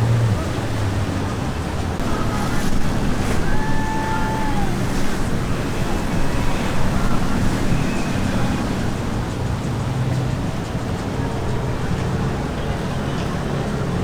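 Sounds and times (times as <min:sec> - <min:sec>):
boat engines rumbling: 0:00.0 - 0:14.0
rushing water: 0:00.0 - 0:14.0
wind buffeting microphone: 0:00.0 - 0:14.0.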